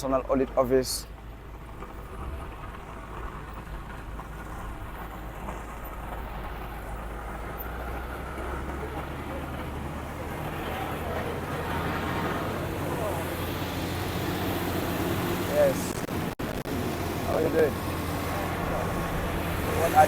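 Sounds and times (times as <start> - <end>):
heavy machine engine running: 1.1 - 20.0.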